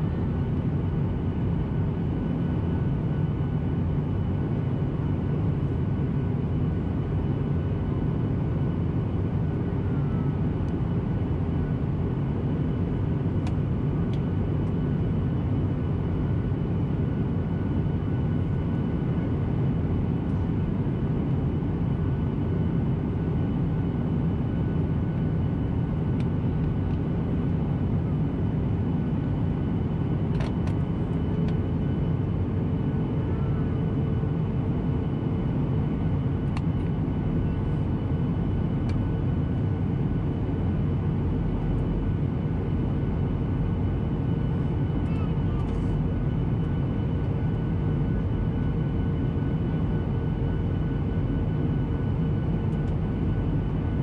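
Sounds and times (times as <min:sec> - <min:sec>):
airplane cabin drone: 0:00.0 - 0:54.0
faint whine: 0:00.0 - 0:54.0.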